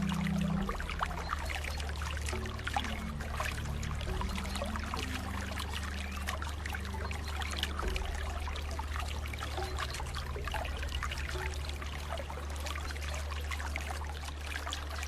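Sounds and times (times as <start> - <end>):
faint low held notes: 0.0 - 15.0
water trickling and burbling: 0.0 - 15.0.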